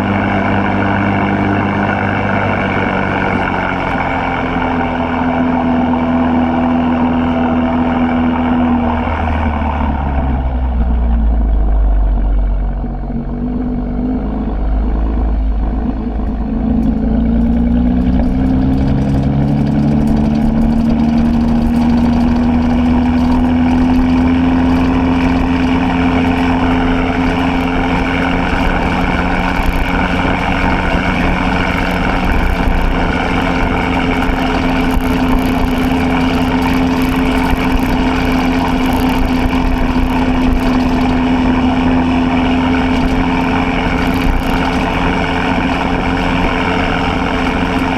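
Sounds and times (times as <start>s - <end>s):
car exhaust while driving: 0.0s - 47.9s.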